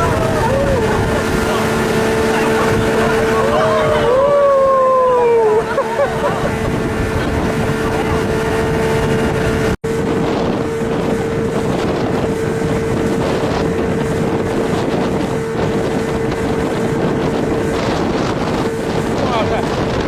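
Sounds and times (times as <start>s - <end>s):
speedboat engine whine: 0.0s - 20.0s
wind buffeting microphone: 0.0s - 20.0s.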